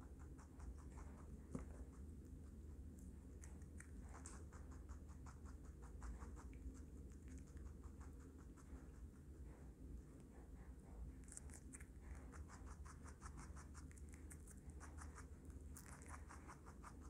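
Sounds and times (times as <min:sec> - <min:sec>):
rabbit chewing vegetables: 0:00.0 - 0:17.0.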